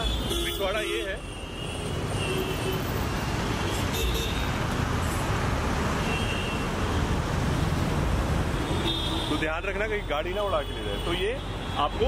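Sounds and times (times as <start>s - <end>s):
road traffic rushing by: 0.0s - 12.0s.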